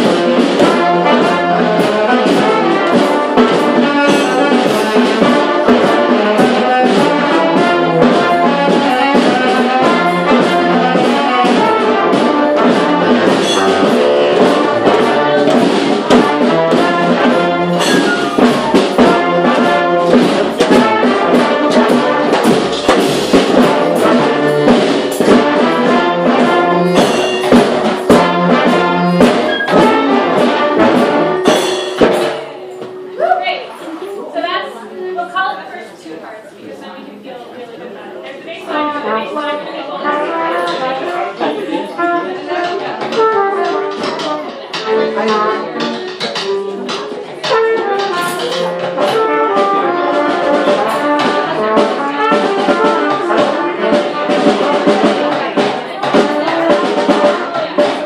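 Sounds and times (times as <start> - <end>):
trombones and trumpets playing: 0.0 - 33.2, 38.7 - 58.0
drum hits: 0.0 - 33.3, 42.0 - 58.0.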